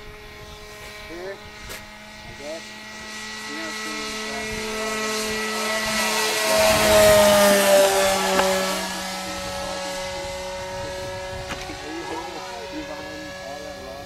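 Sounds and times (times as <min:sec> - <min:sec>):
model airplane motor whining: 0:00.0 - 0:14.0.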